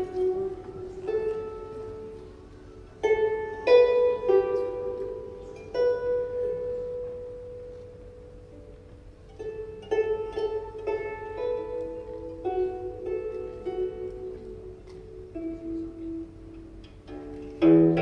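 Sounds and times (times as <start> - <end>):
plucked string instrument notes: 0.0 - 18.0.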